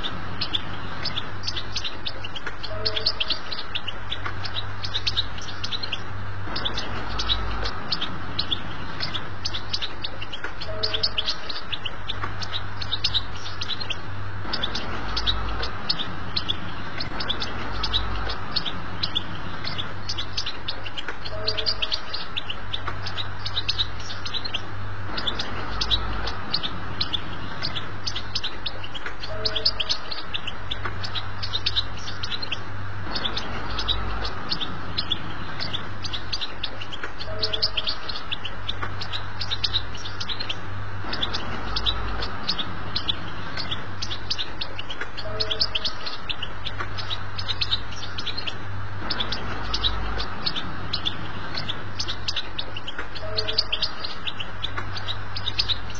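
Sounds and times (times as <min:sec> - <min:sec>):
goldfinch twittering song: 0:00.0 - 0:55.9
steady low hum: 0:00.0 - 0:55.9.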